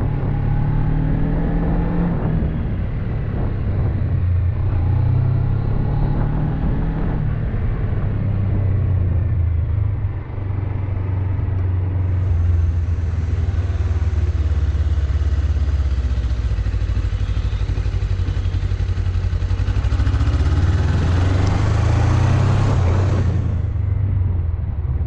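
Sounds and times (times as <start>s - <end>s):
motorcycle engine rumble: 0.0s - 25.0s.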